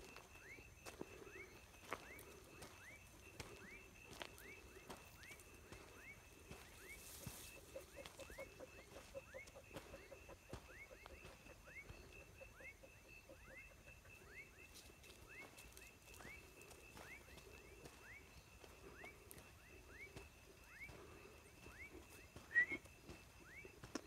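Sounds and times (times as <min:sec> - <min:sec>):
frogs chirping: 0:00.0 - 0:24.0.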